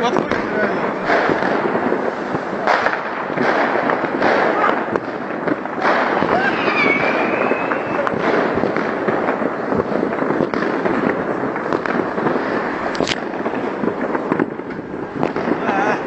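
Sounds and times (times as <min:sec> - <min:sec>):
fireworks crackling and banging: 0:00.0 - 0:16.0
sharp firework crack: 0:00.0 - 0:16.0.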